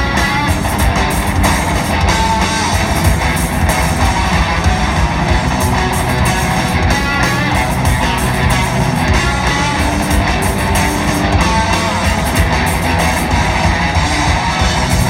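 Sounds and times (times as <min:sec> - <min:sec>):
electric guitars: 0:00.0 - 0:15.0
live rock band playing: 0:00.0 - 0:15.0.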